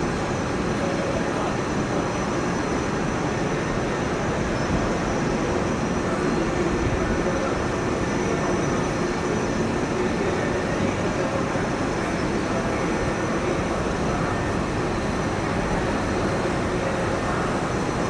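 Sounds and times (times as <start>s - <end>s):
jet engines rumbling with whine: 0.0s - 18.0s.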